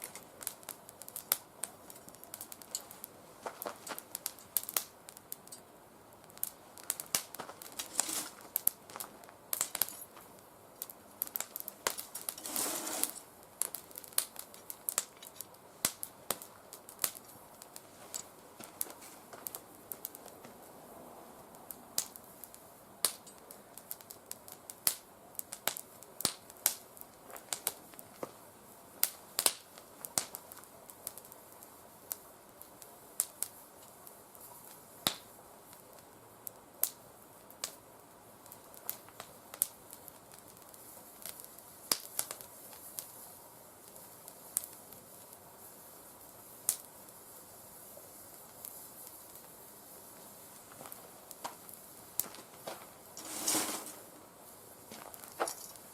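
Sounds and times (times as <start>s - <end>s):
twigs burning with crackling pops: 0.0s - 55.9s.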